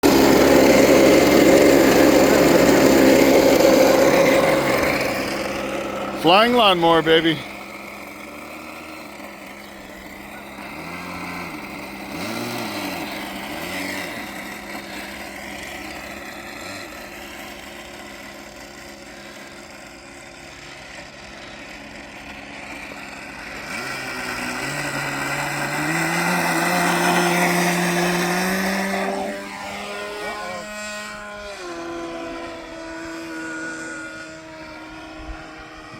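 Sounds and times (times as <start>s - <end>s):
model airplane motor and propeller: 0.0s - 35.9s.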